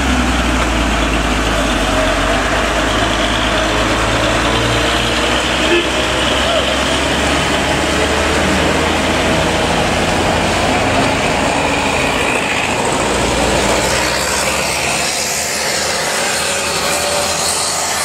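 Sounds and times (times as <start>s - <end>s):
truck diesel engine: 0.0s - 18.0s
tyres hissing on wet road: 0.0s - 18.0s.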